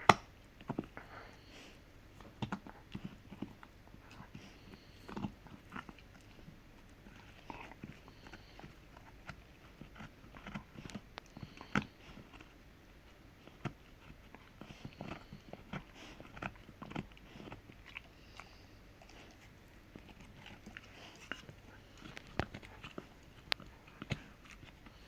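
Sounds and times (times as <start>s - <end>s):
dog gnawing a hard chew: 0.0s - 25.0s.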